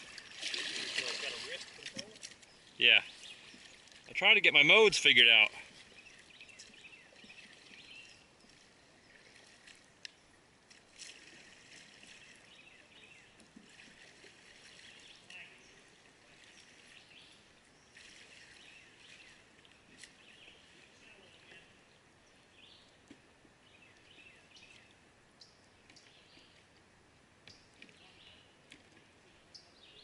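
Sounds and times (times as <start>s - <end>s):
faint creek ambience: 0.0s - 30.0s.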